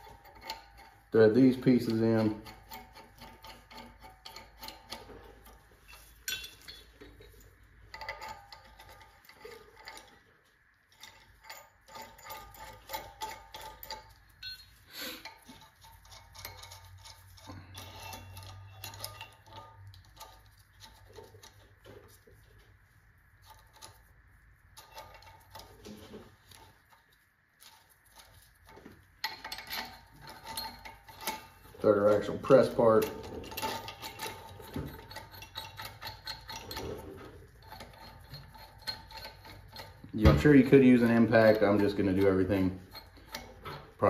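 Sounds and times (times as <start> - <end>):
steel parts clinking and rattling: 0.0 - 22.6, 23.4 - 44.0.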